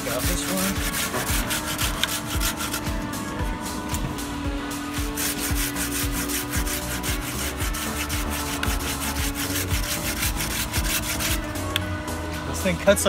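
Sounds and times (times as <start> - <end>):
hand saw rasping through wood: 0.0 - 11.7.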